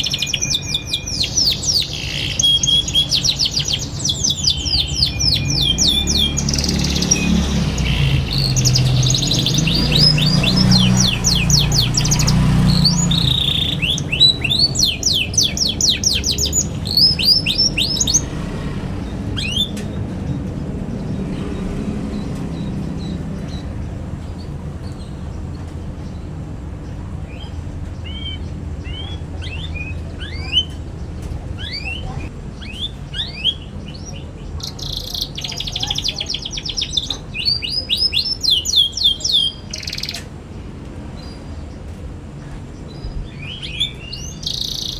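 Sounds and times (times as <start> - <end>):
canary chirping: 0.0 - 40.3, 42.9 - 44.9.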